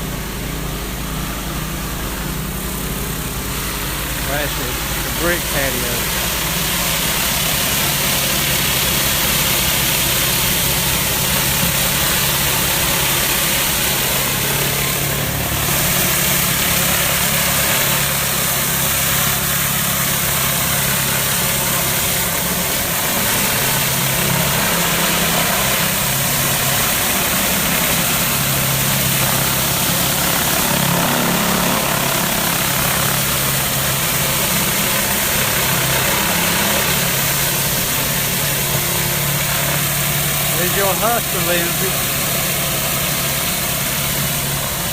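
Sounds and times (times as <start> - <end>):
pressure washer engine running: 0.0 - 44.9
water spray hissing on paving: 2.9 - 44.9.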